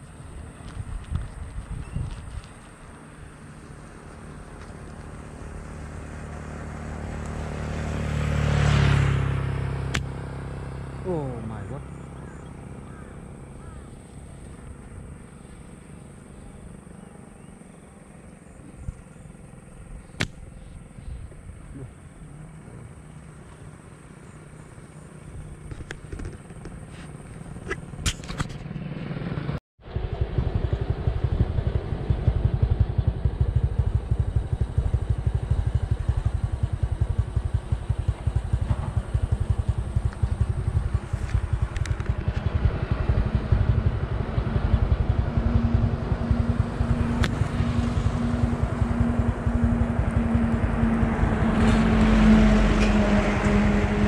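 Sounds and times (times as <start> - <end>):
motor vehicle rumbling: 0.0 - 54.0.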